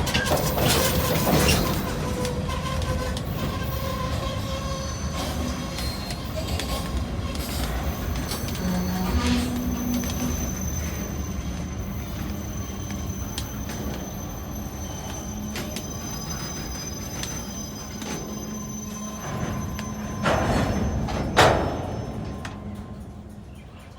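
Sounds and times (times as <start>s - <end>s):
train wheels rumbling on rails: 0.0s - 23.9s
high-pitched wheel squeal: 0.4s - 22.3s.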